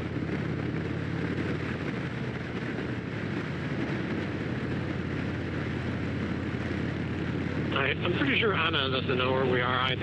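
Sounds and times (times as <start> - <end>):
motorcycle engine cruising: 0.0 - 10.0
wind and road rush: 0.0 - 10.0.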